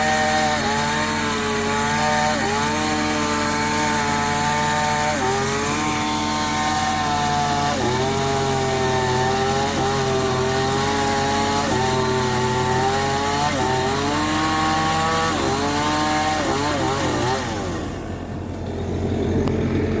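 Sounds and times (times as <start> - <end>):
excavator engine and hydraulics whining: 0.0 - 20.0.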